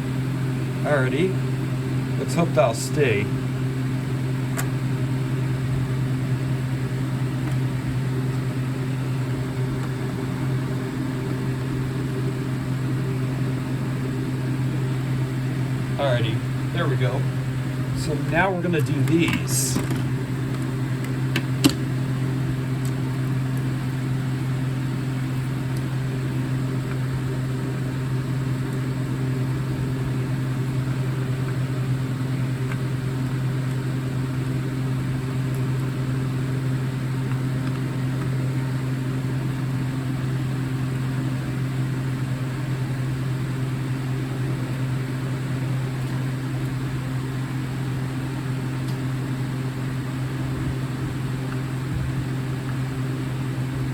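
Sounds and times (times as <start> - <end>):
low mechanical hum: 0.0 - 53.9.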